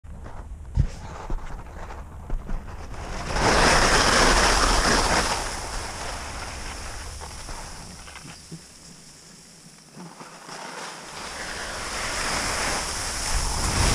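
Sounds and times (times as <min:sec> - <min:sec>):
wind noise on microphone: 0:00.0 - 0:08.6, 0:11.2 - 0:13.9
skis scraping on snow: 0:00.2 - 0:13.9.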